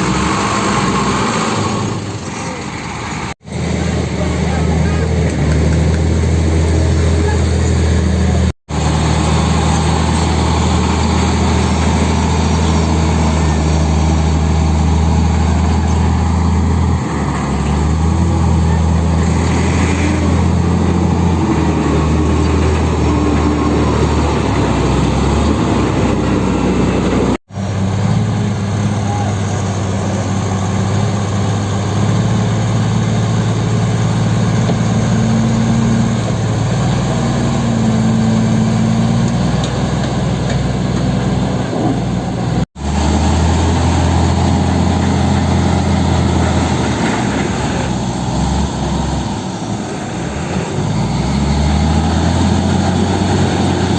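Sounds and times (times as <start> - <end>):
heavy diesel engines running: 0.0 - 53.9.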